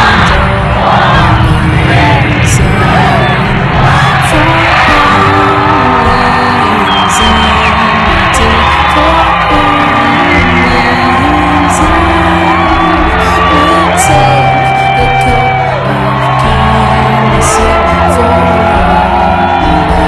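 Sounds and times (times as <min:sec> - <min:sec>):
crowd whooping and cheering: 0:00.0 - 0:20.0
music with singing voice: 0:00.0 - 0:20.0.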